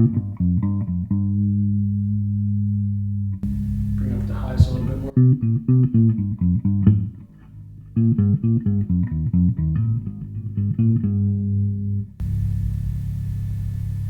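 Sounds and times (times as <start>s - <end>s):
electric bass notes: 0.0s - 14.0s.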